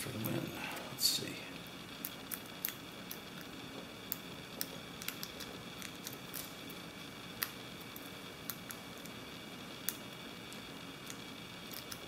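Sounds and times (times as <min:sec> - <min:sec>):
faint background hum: 0:00.0 - 0:12.0.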